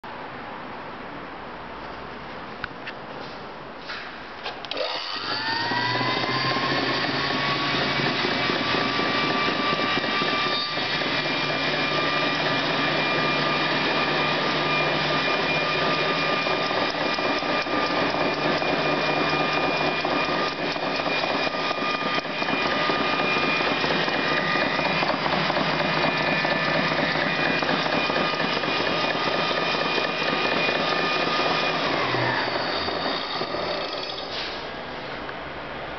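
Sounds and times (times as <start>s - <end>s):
electric motor whine: 4.7s - 34.4s.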